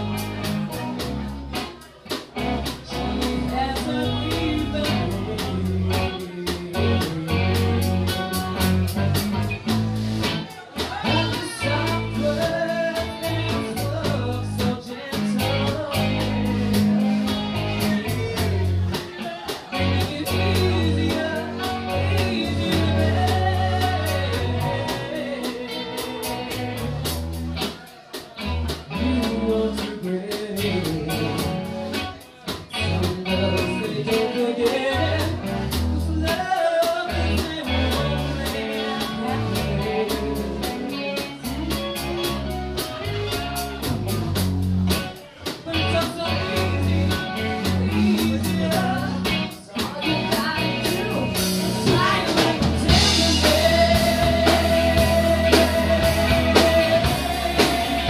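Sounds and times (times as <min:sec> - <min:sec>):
live rock band playing: 0:00.0 - 0:58.0
woman singing lead vocal: 0:02.8 - 0:09.0, 0:10.8 - 0:26.9, 0:28.9 - 0:32.0, 0:32.8 - 0:42.4, 0:45.6 - 0:58.0.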